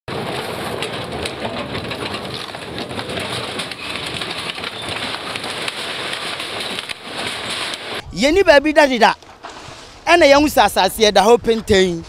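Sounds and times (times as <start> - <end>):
wood cracking and crunching: 0.1 - 10.3.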